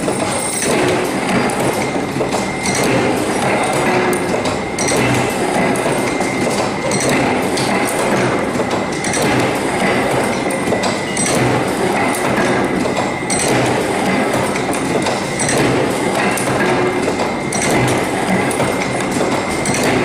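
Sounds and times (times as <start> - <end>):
machinery clattering: 0.0 - 20.0.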